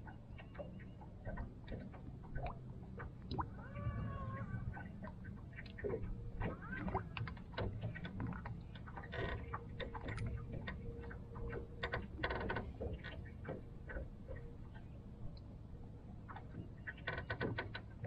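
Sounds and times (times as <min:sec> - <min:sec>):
faint steady hum: 0:00.0 - 0:18.0
small waves slapping boat hull: 0:00.0 - 0:18.0.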